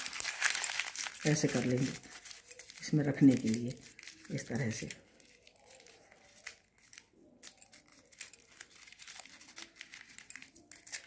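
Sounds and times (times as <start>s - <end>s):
paper crumpling: 0.0s - 11.0s.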